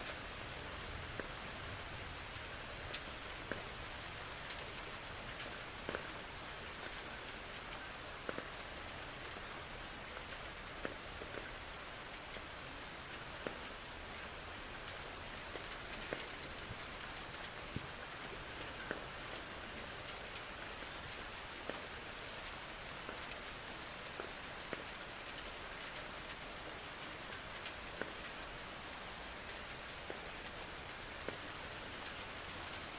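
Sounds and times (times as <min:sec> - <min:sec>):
steady rain: 0:00.0 - 0:32.9.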